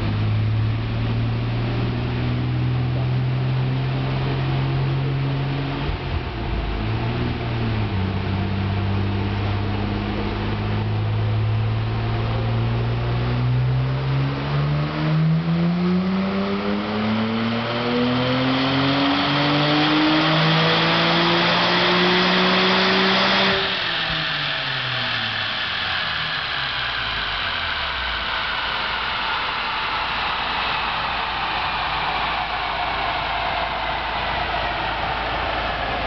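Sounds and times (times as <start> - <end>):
car engine revving on dyno: 0.0 - 36.0.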